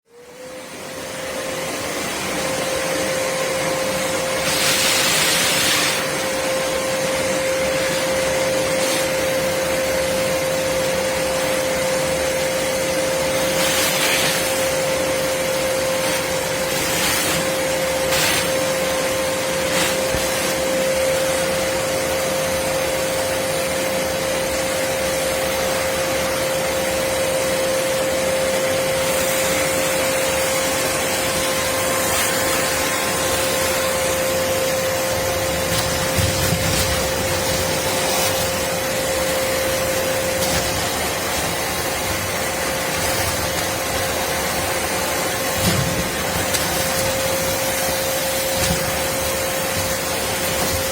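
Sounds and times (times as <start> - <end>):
vacuum motor whining: 0.1 - 50.9
rushing hiss of airflow: 2.0 - 24.0, 28.3 - 50.9.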